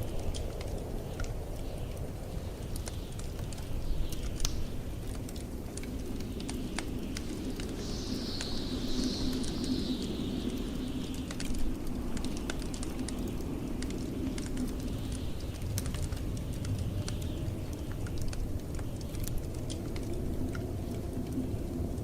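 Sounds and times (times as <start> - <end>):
blizzard wind rumble: 0.0 - 22.0
crackling wood fire: 0.0 - 22.0.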